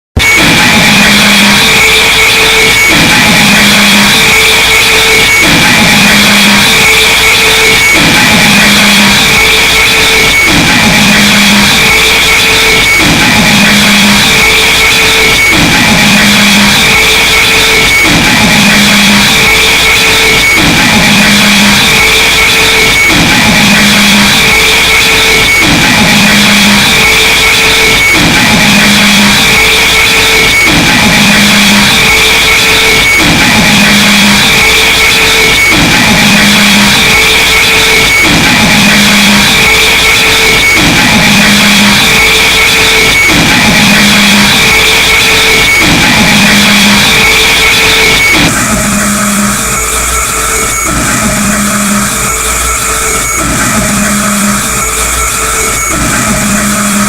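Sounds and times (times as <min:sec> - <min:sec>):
harsh distorted noise music: 0:00.0 - 0:57.0
low drone: 0:00.2 - 0:57.0.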